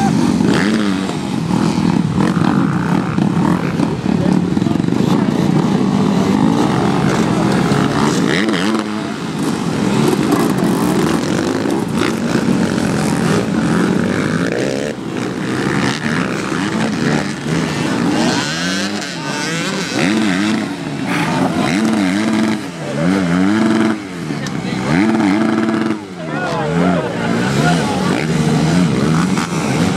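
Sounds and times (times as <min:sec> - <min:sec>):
dirt bike engines revving: 0:00.0 - 0:29.9.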